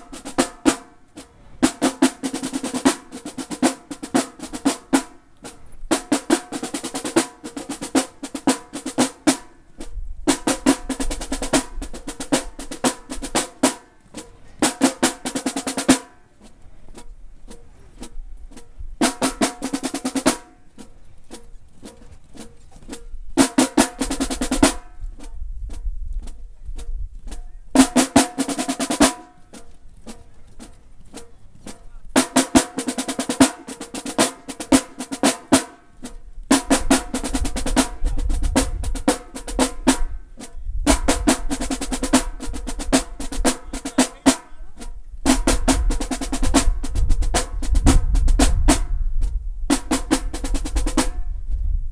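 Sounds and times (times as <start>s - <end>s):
bass drums: 0.0s - 14.0s, 22.9s - 51.9s
snare drum strokes and rolls: 0.0s - 26.4s, 27.2s - 51.6s.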